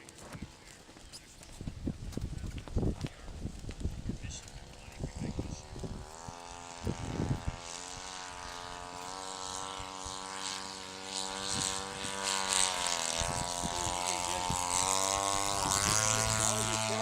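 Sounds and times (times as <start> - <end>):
model airplane engine droning: 0.0 - 17.0.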